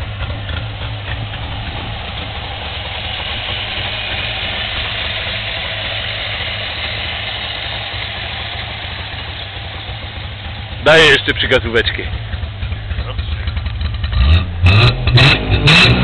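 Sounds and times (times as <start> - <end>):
two-stroke engine idling: 0.0 - 14.7.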